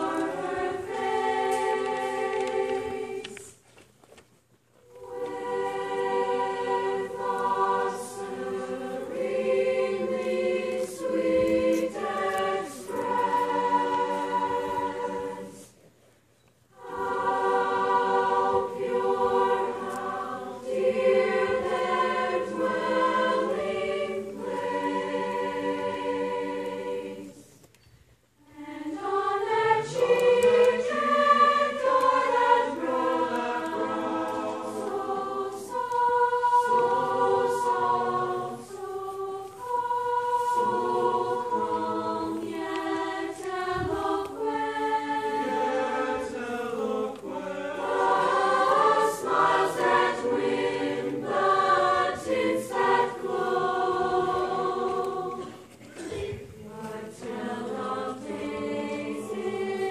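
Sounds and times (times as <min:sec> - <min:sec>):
choir singing sustained chords: 0:00.0 - 0:03.6, 0:04.8 - 0:15.8, 0:16.7 - 0:27.6, 0:28.4 - 0:59.9.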